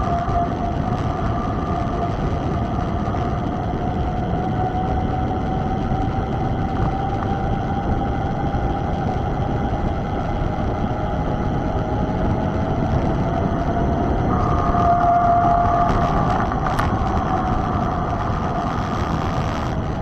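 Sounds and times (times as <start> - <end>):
higher hum: 0.0 - 20.0
mountain bike riding rush: 0.0 - 20.0
steady hum dropping in pitch: 0.0 - 20.0.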